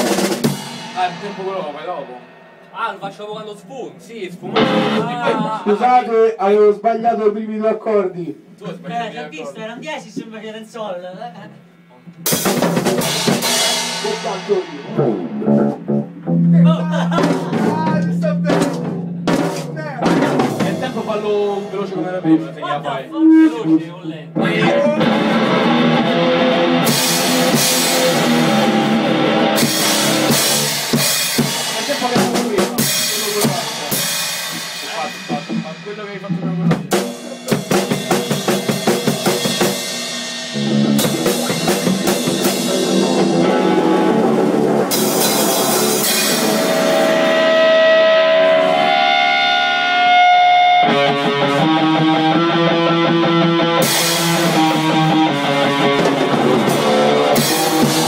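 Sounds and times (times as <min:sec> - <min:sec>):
guitar playing: 0:00.0 - 0:06.3, 0:11.4 - 0:58.0
drum kit playing: 0:00.0 - 0:06.4, 0:08.4 - 0:58.0.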